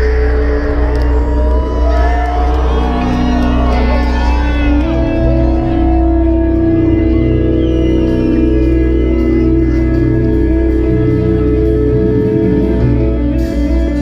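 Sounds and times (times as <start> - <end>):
rock band droning guitar and bass: 0.0 - 14.0.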